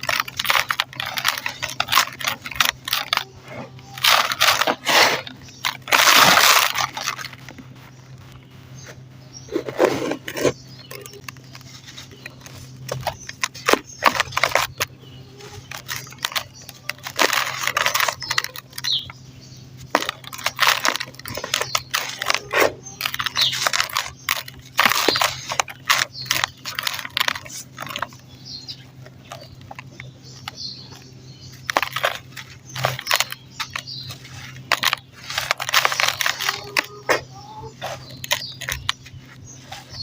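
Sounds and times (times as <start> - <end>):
dirt clumps crumbling: 0.0 - 40.0.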